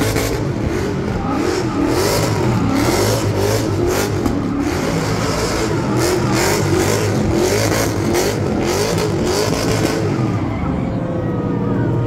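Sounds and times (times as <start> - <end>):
car engine revving hard: 0.0 - 10.4.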